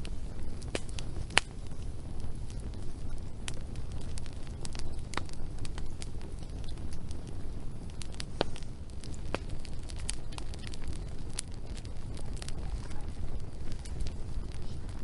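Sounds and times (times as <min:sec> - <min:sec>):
logs crackling and popping: 0:00.0 - 0:15.0
wood fire rumbling: 0:00.0 - 0:15.0.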